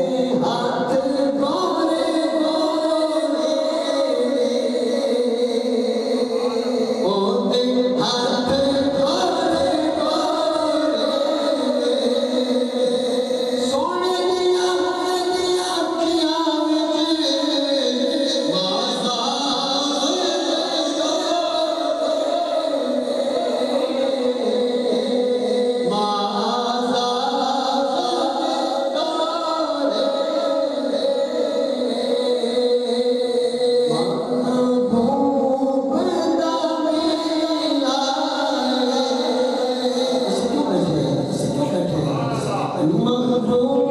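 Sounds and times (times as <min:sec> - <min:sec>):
devotional singing with held notes: 0:00.0 - 0:43.9.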